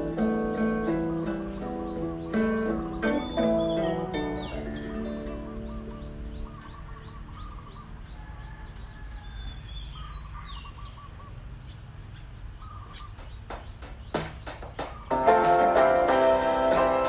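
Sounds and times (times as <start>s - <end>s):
birds chirping and calling: 0.0s - 16.1s.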